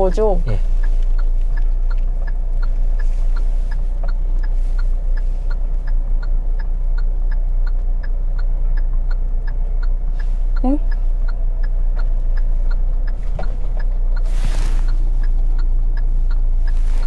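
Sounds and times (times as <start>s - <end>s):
car indicator ticking: 0.0s - 17.0s
low steady hum: 0.0s - 17.0s.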